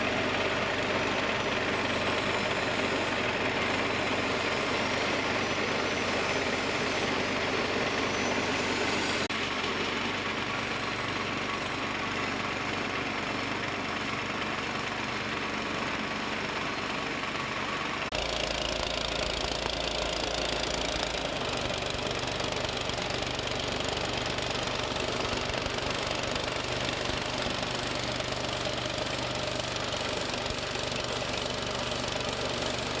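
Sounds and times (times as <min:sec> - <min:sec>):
machine droning: 0:00.0 - 0:33.0.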